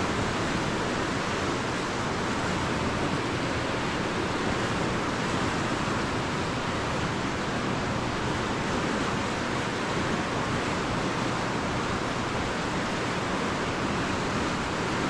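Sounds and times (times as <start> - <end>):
fast river water rushing: 0.0 - 15.0.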